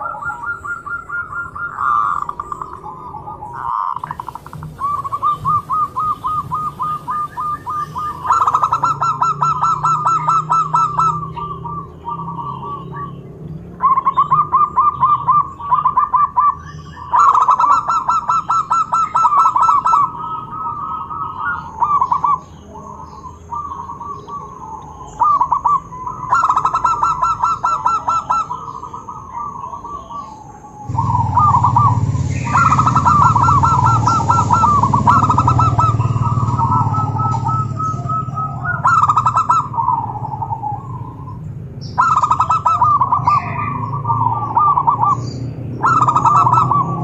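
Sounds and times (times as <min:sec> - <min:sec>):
doves cooing trills: 0:00.0 - 0:47.0
low background rumble: 0:00.0 - 0:47.0.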